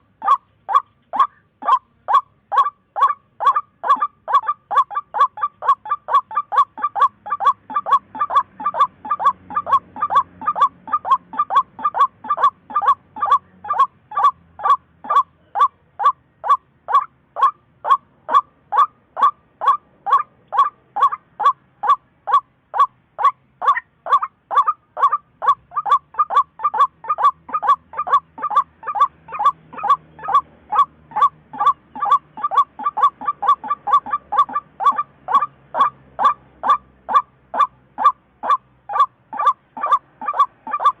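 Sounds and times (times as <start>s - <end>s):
waterhen calling: 0.0s - 41.0s.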